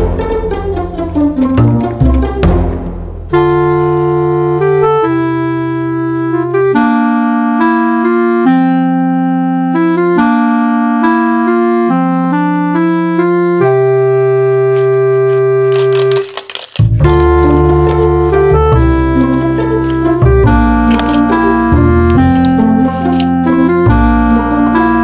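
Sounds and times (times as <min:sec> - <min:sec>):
keyboard tune over bass line: 0:00.0 - 0:16.2, 0:16.8 - 0:25.0.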